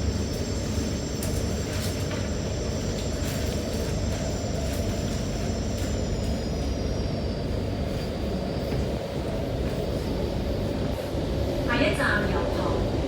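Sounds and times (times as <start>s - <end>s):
high whine of train: 0.0s - 13.0s
metro train rumble: 0.0s - 13.0s.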